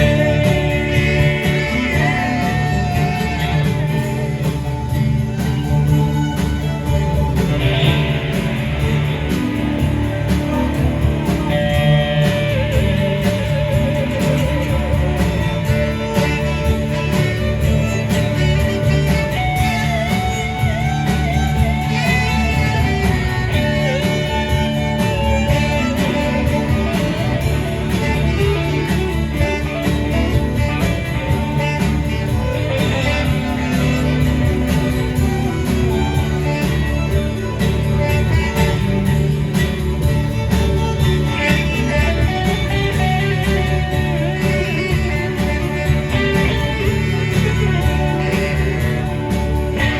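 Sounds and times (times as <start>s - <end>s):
lead guitar notes: 0.0s - 49.9s
live band playing: 0.0s - 49.9s.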